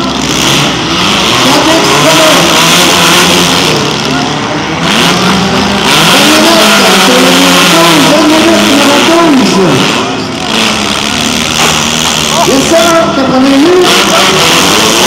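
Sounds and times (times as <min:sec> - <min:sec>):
car engines revving: 0:00.0 - 0:15.0
crowd noise: 0:00.0 - 0:15.0.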